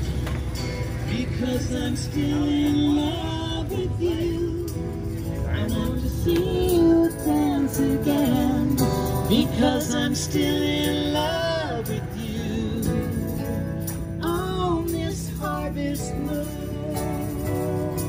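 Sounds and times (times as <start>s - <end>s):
acoustic guitar chords: 0.0s - 18.0s
jingling hand percussion: 0.7s - 18.0s
man singing: 0.9s - 18.0s.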